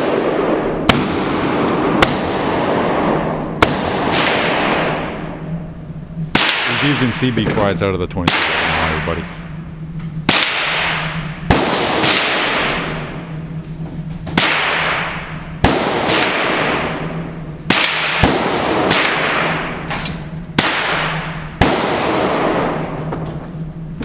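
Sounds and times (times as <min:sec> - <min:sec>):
echoing handgun shots: 0:00.0 - 0:07.4, 0:08.2 - 0:09.6, 0:10.2 - 0:13.5, 0:14.3 - 0:23.2.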